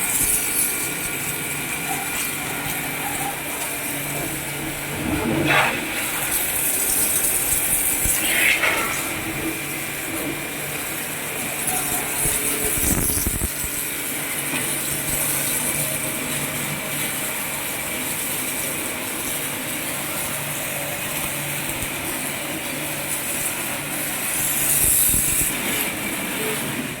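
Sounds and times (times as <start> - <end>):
high-pressure water spray hiss: 0.0 - 27.0
pressure washer motor hum: 0.0 - 27.0.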